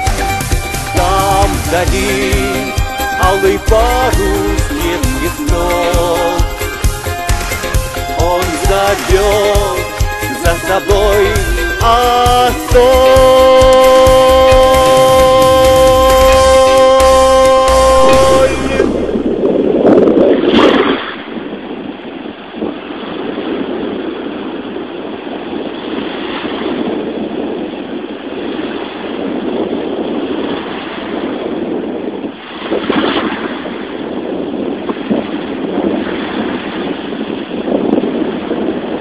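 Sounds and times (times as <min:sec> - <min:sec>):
surf washing onto beach: 0:00.0 - 0:39.0
wind buffeting microphone: 0:00.0 - 0:39.0.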